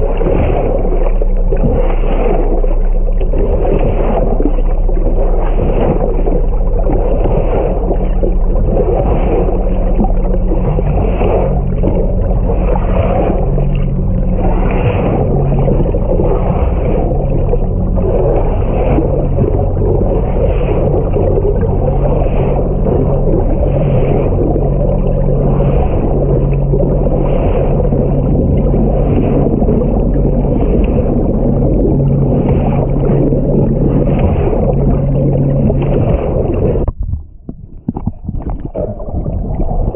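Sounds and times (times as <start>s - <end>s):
boat engine droning: 0.0s - 39.9s
water noise: 0.0s - 39.9s.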